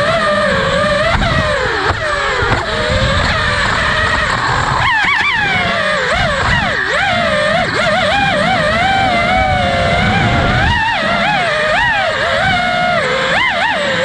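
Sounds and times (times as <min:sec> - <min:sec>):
noisy rush: 0:00.0 - 0:14.0
quadcopter motors whining: 0:00.0 - 0:14.0.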